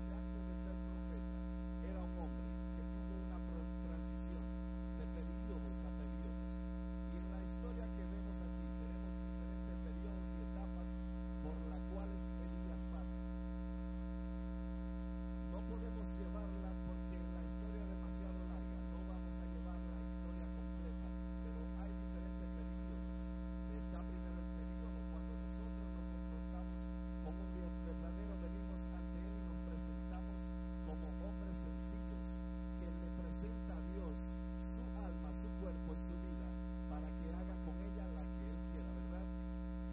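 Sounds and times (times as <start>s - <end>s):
man speaking faintly: 0.0s - 13.5s, 15.4s - 39.4s
electrical mains hum: 0.0s - 39.9s.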